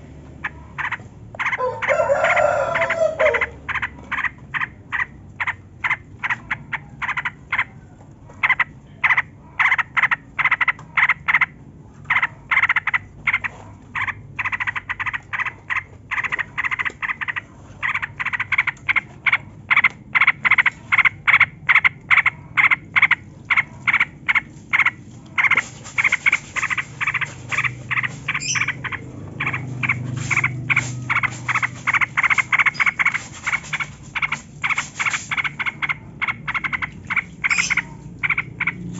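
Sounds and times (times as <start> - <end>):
bird chattering song: 0.4 - 1.6, 2.8 - 7.7, 8.4 - 38.9.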